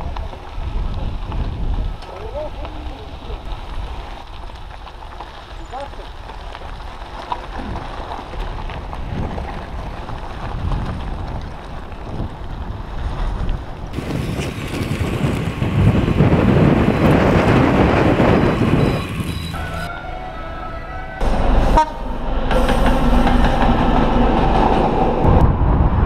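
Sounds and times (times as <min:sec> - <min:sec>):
wind buffeting microphone: 0:00.0 - 0:19.9, 0:21.3 - 0:26.0.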